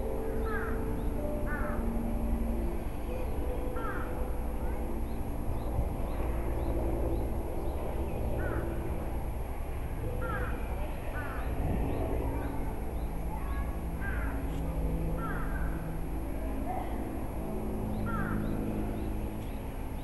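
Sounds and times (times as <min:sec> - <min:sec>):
birds calling: 0:00.0 - 0:09.2, 0:10.0 - 0:16.1, 0:16.8 - 0:20.0
steady low rumble: 0:00.0 - 0:20.0.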